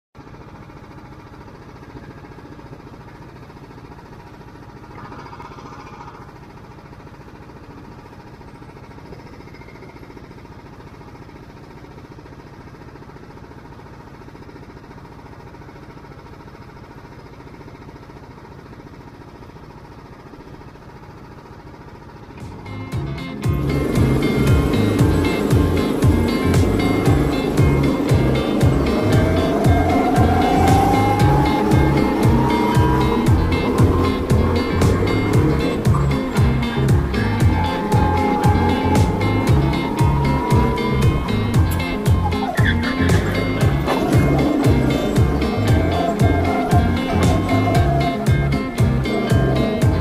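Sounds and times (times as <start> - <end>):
muffled kart engines idling: 0.2 - 50.0.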